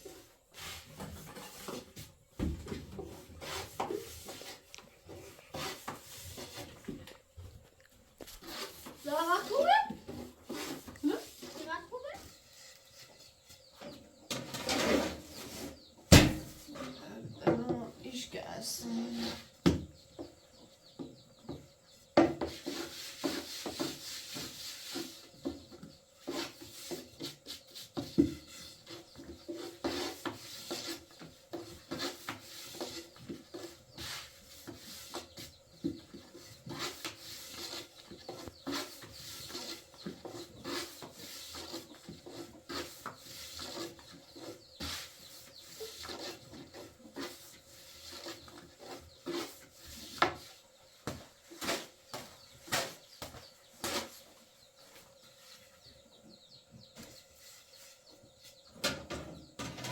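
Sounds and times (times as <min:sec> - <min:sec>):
rubbing and scraping on wood: 0:00.0 - 0:59.9.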